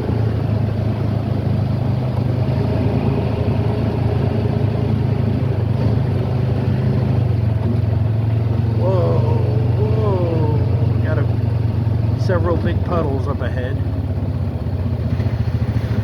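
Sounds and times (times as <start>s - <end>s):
utility vehicle engine droning: 0.0s - 16.0s.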